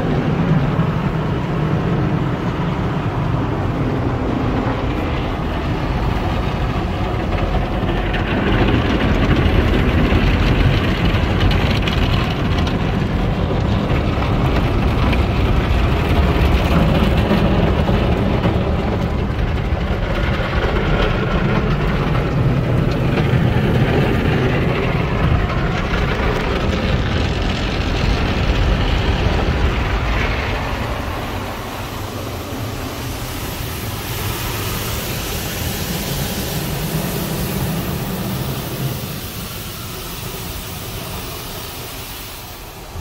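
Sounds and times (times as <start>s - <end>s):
car wash brushes and water spray: 0.0s - 43.0s
low rumble: 0.0s - 43.0s.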